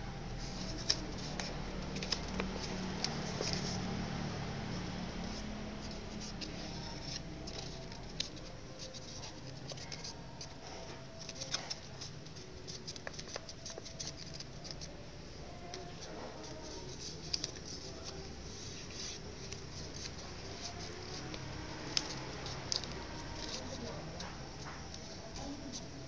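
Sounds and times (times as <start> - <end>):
paper rustling and crinkling: 0.3 - 15.0, 15.6 - 26.0.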